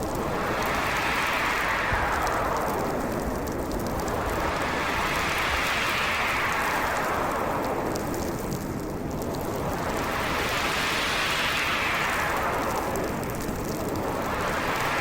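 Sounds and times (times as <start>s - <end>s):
howling wind gusts: 0.0s - 15.0s.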